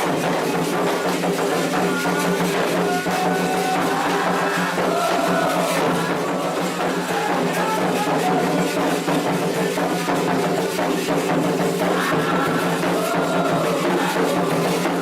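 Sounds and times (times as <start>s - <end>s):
people singing: 0.0s - 10.5s, 11.6s - 15.0s
hand drums beating: 0.0s - 15.0s.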